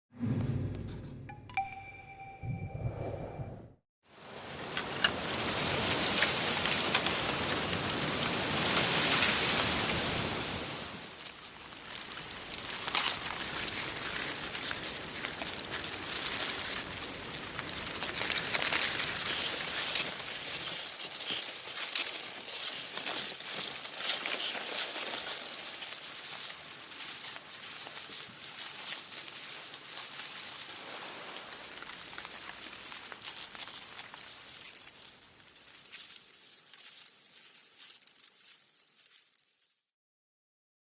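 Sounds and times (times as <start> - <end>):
wind rustling leaves: 4.1 - 39.6.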